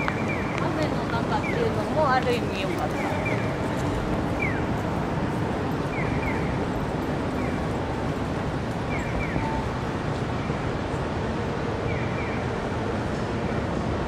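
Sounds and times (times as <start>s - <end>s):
city street rush: 0.0s - 14.0s.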